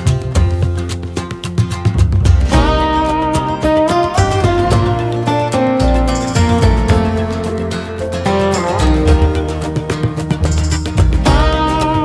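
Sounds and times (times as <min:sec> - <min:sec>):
held melody line: 0:00.0 - 0:12.0
strummed acoustic guitar: 0:00.0 - 0:12.0.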